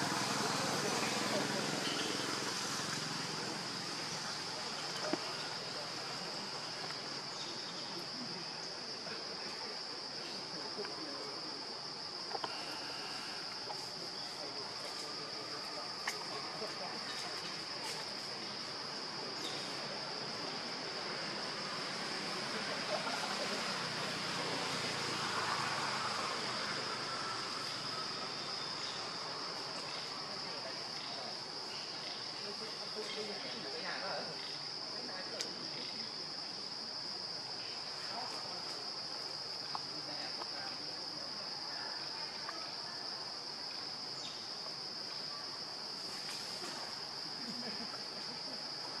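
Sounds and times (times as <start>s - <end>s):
forest insects buzzing: 0.0s - 49.0s.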